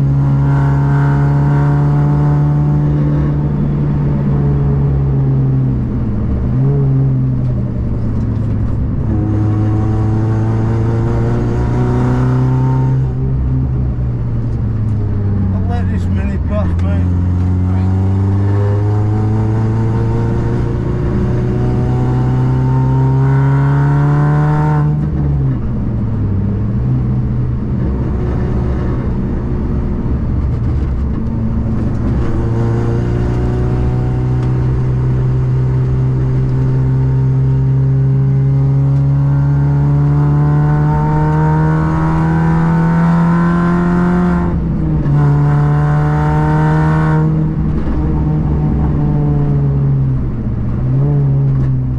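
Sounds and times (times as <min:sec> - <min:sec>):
car engine under load: 0:00.0 - 0:51.9.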